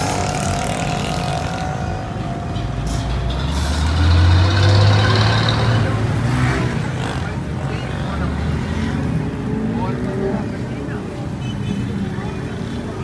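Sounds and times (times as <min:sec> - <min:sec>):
street noise: 0:00.0 - 0:13.0
vehicle passing: 0:00.0 - 0:13.0.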